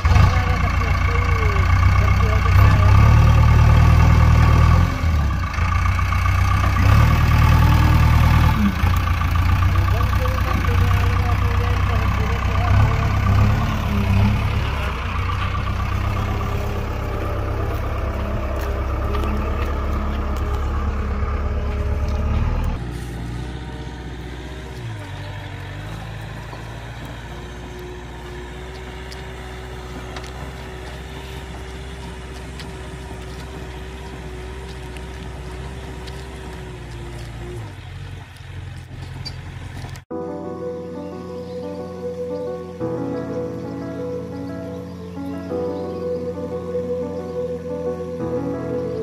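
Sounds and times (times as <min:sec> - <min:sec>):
diesel engine running hard: 0:00.0 - 0:49.0
held whining tone: 0:00.0 - 0:49.0.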